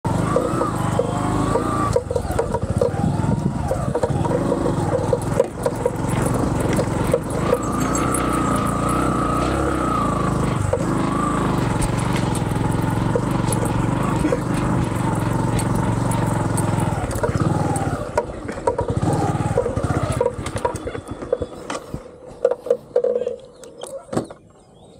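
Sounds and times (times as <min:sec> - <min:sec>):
small motorcycle engine running: 0:00.0 - 0:24.3.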